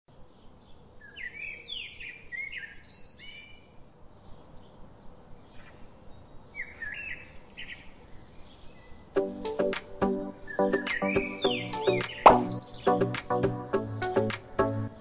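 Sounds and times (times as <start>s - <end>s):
birds chirping and singing: 0.2s - 15.0s.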